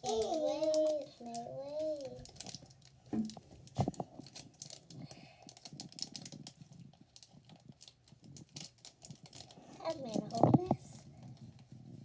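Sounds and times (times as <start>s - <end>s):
plastic packets crinkling: 0.0s - 11.8s.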